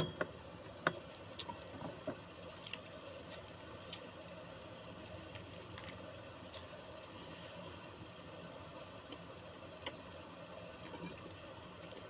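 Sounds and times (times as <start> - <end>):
refrigerator humming: 0.0 - 12.0.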